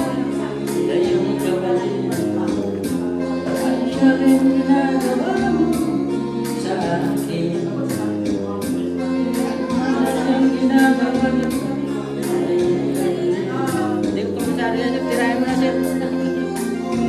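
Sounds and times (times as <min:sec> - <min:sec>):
backing track with steady beat: 0:00.0 - 0:17.0
man singing into a microphone: 0:00.0 - 0:17.0.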